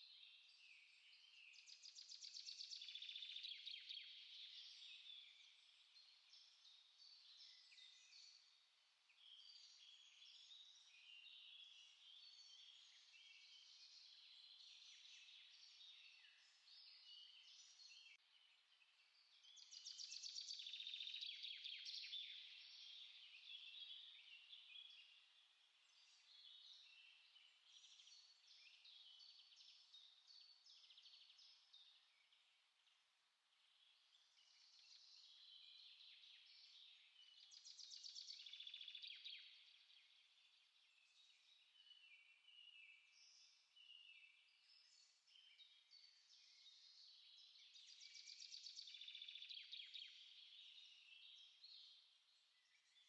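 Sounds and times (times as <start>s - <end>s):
songbirds chirping and singing: 0.0s - 53.0s.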